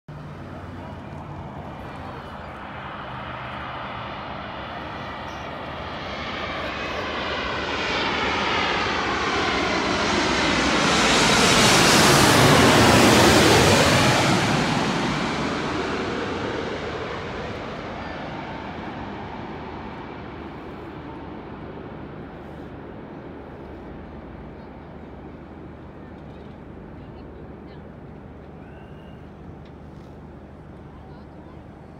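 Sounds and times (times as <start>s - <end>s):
jet airliner passing overhead: 0.1s - 31.9s.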